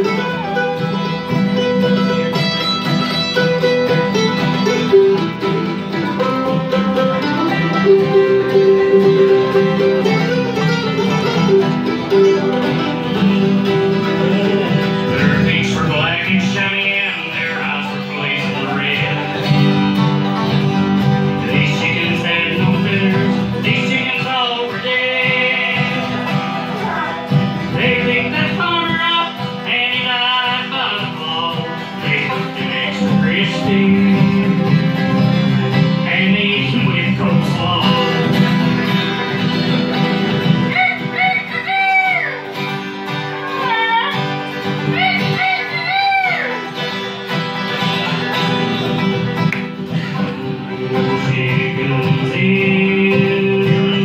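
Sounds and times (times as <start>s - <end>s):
acoustic bluegrass band playing: 0.0s - 54.0s.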